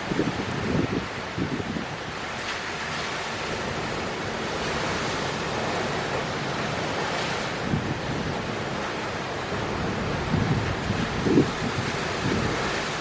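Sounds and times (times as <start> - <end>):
wind buffeting microphone: 0.0 - 2.3, 3.4 - 13.0
waves breaking on rocks: 0.0 - 13.0.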